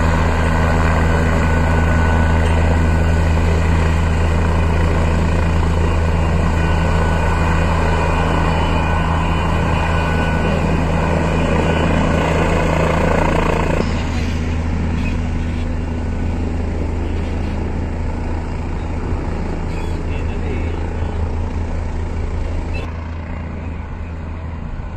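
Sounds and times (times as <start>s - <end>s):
helicopter rotor drone and whine: 0.0s - 24.9s.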